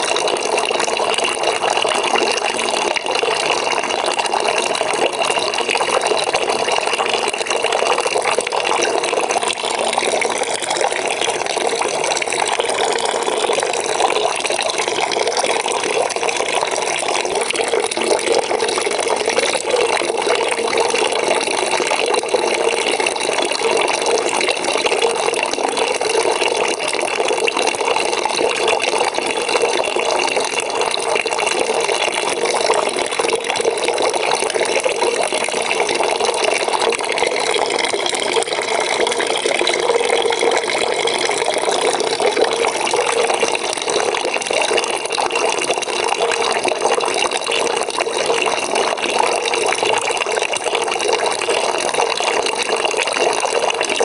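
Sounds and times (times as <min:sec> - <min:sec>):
tap water pouring into bucket: 0:00.0 - 0:54.0.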